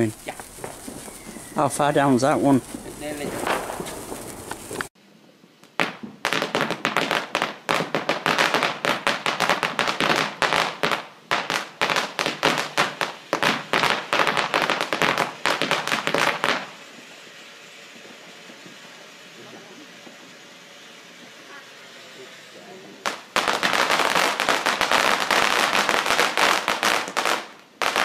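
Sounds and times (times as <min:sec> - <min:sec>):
fireworks bangs and crackles: 0:00.0 - 0:04.9, 0:05.6 - 0:20.4, 0:22.8 - 0:28.0.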